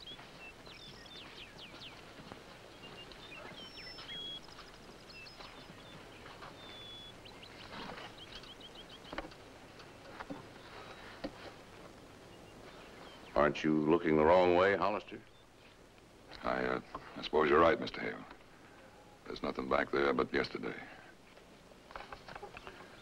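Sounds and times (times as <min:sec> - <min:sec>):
birds chirping: 0:00.0 - 0:21.3, 0:21.9 - 0:23.0.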